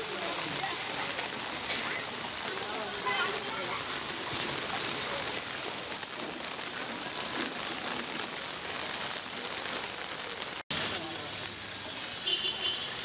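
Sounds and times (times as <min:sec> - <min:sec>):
heavy rain on flooded street: 0:00.0 - 0:13.0.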